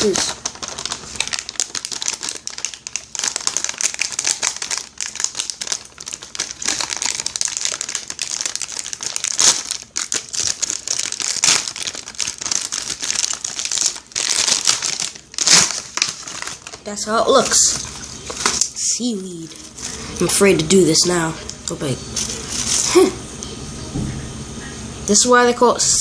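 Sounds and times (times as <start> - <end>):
plastic packaging crinkling: 0.0 - 23.2.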